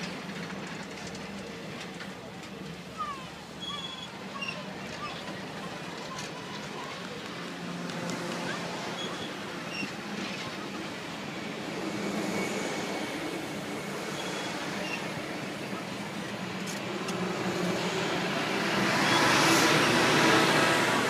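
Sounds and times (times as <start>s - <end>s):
railcar wheels rumbling on rails: 0.0s - 21.0s.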